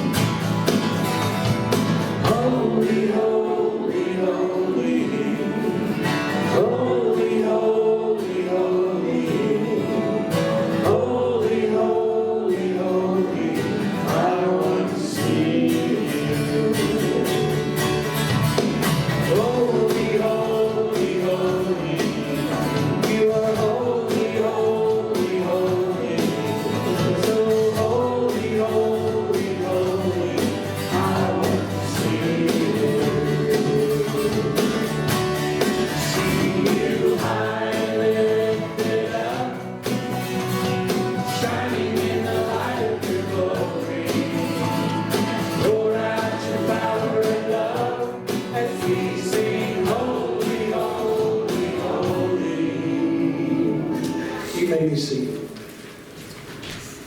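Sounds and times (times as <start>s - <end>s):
group singing praise song: 0.0s - 54.7s
band with acoustic guitar: 0.0s - 57.0s.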